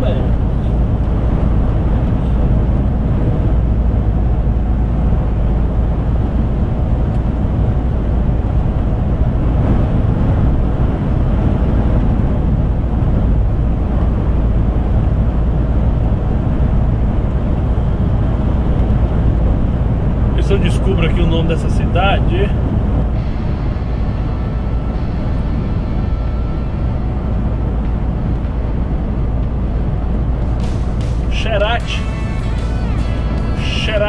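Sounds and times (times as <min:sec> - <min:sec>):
lorry engine and tyres rumbling: 0:00.0 - 0:34.0.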